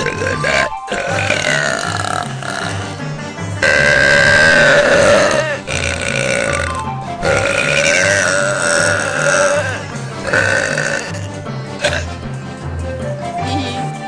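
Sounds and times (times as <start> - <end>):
woman belching: 0.0 - 3.0, 3.6 - 12.1
background music with beat: 0.0 - 14.0.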